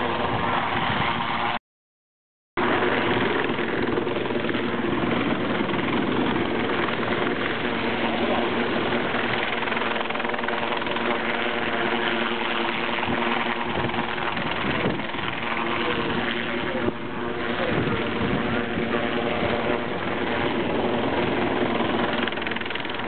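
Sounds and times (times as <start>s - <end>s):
helicopter hovering: 0.0s - 1.6s, 2.6s - 23.0s.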